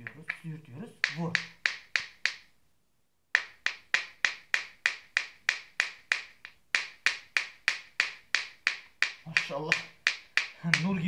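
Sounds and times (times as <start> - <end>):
stones clicking together: 0.0 - 2.5, 3.4 - 11.0.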